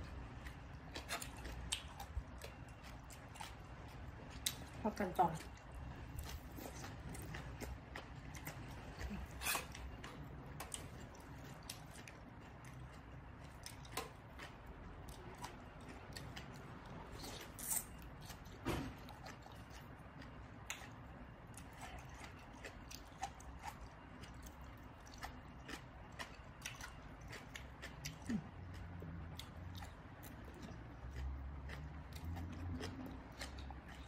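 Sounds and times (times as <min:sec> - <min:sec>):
chewing and crunching food: 0:00.0 - 0:34.0.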